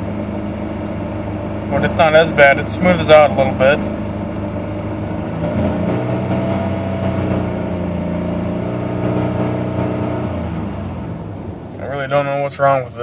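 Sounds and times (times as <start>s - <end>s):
engine running at raised revs: 0.0s - 13.0s.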